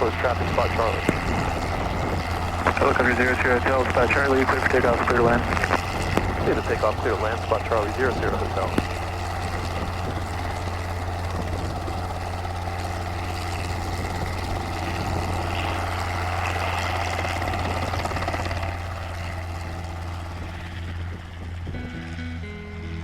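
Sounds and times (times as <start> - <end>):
wind noise: 0.0 - 18.7, 19.3 - 22.3
helicopter engine and rotors: 0.0 - 23.0.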